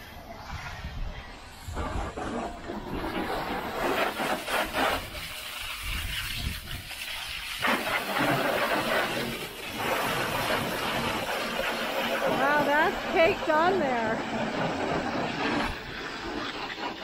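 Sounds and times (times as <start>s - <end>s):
hose water jet hissing: 1.5s - 17.0s.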